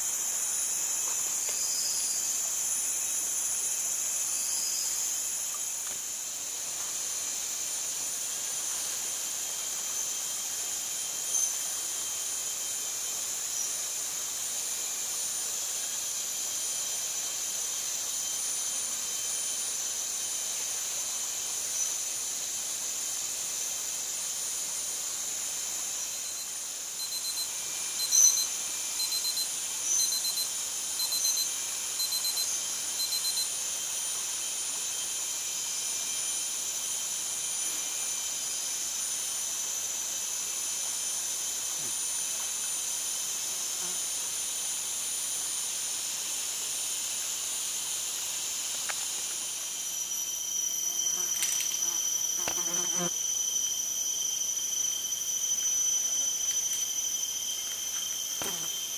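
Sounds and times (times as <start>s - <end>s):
high-pitched insect drone: 0.0s - 58.9s
rapid insect rattle: 0.0s - 58.9s.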